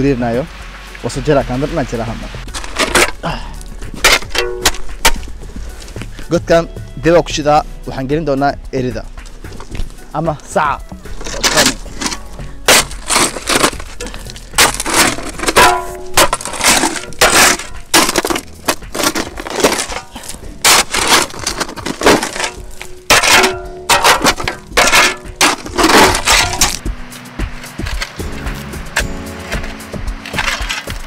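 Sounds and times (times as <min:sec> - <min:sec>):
shovel scraping gravelly soil: 0:02.0 - 0:06.3, 0:09.4 - 0:26.8, 0:27.7 - 0:31.0.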